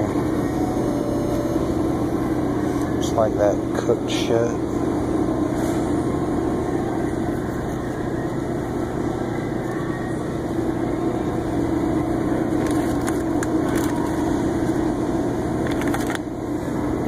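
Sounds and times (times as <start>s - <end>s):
display case fan hum: 0.0s - 17.0s.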